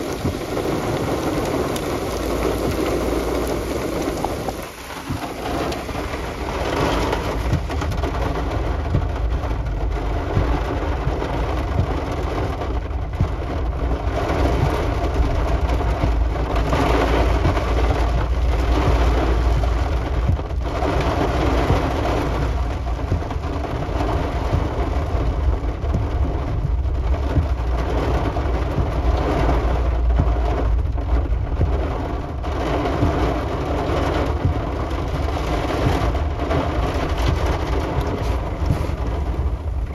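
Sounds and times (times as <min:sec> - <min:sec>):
deep thunder rumble: 0:00.0 - 0:39.9
heavy rain: 0:00.0 - 0:39.9
wind: 0:00.0 - 0:39.9.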